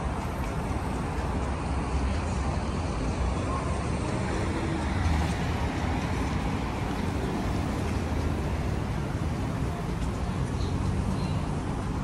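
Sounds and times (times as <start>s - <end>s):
passing cars rumble: 0.0s - 12.0s.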